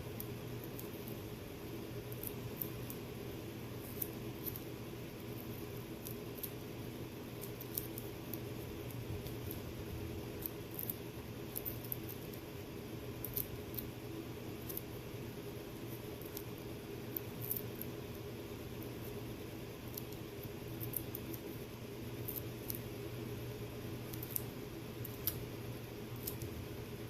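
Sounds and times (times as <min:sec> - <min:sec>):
heater humming: 0:00.0 - 0:27.0.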